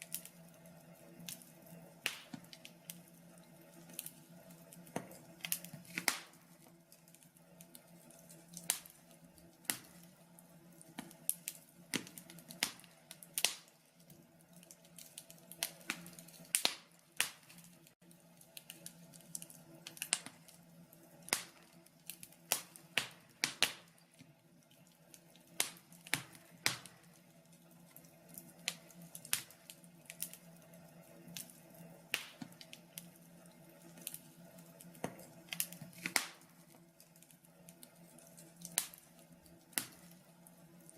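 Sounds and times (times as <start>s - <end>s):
logs crackling in a stove: 0.0s - 40.9s.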